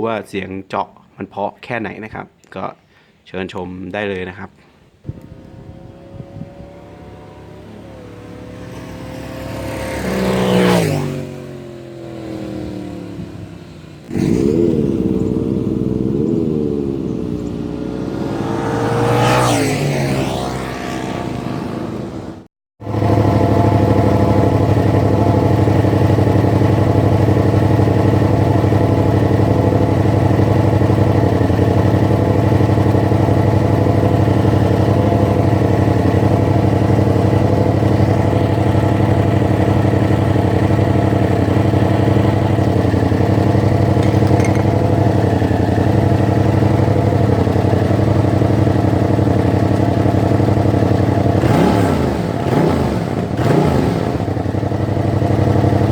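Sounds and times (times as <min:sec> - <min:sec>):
motorcycle engine running: 0:05.1 - 0:55.9
motorcycle passing by: 0:05.1 - 0:55.9.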